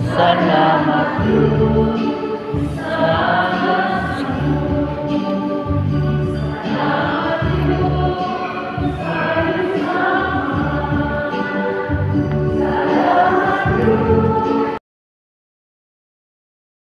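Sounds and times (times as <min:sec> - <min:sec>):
choir and congregation singing hymn: 0:00.0 - 0:14.8.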